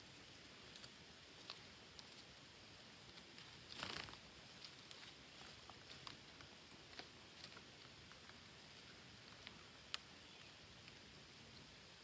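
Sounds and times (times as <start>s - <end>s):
leaves rustling: 0.0s - 12.0s.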